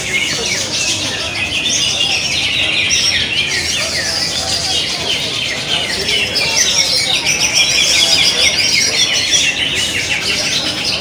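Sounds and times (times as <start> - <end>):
faint murmur of people: 0.0 - 11.0
many birds chirping and trilling: 0.0 - 11.0.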